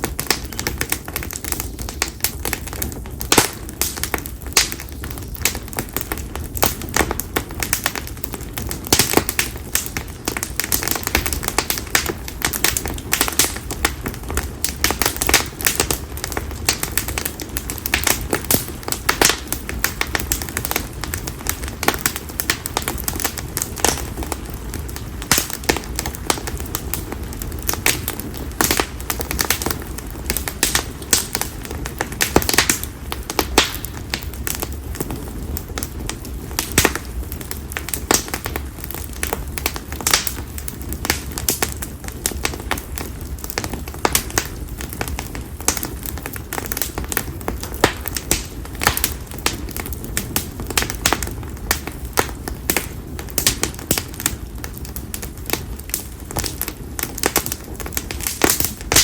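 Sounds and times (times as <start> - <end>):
campfire crackling and popping: 0.0 - 59.0
low fire rumble: 0.0 - 59.0.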